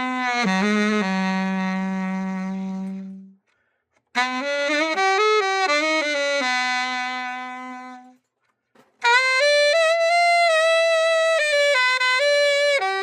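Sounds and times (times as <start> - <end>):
solo alto saxophone: 0.0 - 13.0.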